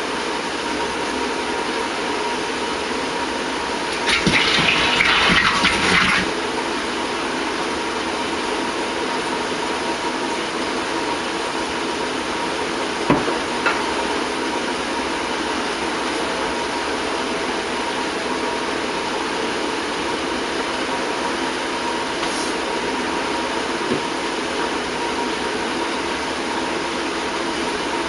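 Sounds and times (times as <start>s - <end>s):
steady mechanical hum: 0.0s - 28.0s.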